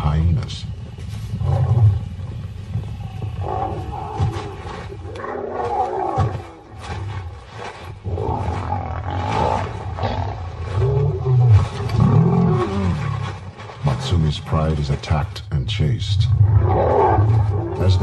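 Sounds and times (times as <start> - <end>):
lionesses roaring and growling: 1.3 - 14.9, 16.0 - 18.0.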